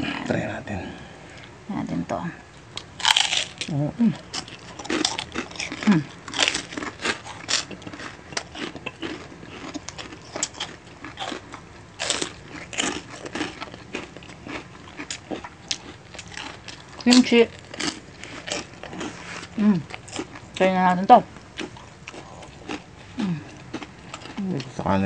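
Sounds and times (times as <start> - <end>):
crunching pork rinds: 2.7 - 24.8.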